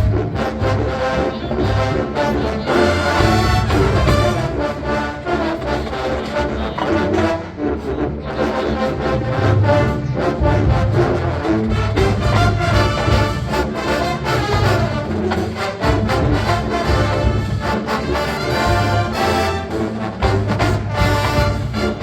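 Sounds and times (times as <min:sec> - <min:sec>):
drums keeping a steady beat: 0:00.0 - 0:07.5, 0:09.3 - 0:22.0
massed brass: 0:00.0 - 0:22.0.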